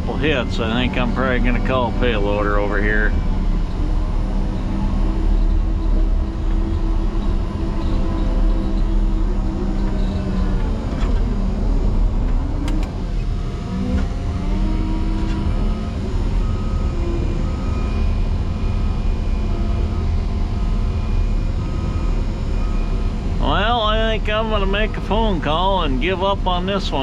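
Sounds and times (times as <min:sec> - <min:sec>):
diesel engine revving: 0:00.0 - 0:27.0.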